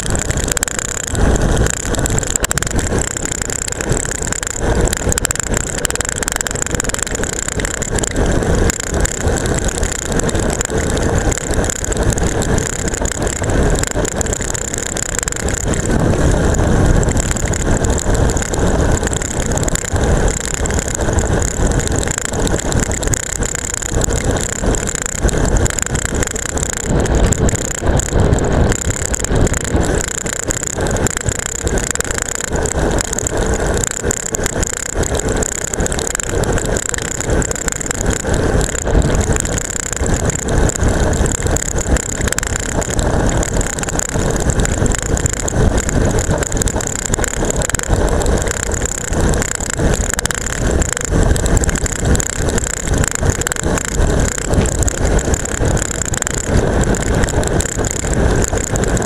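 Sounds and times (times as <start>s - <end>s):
tyre noise on asphalt: 0.0s - 59.0s.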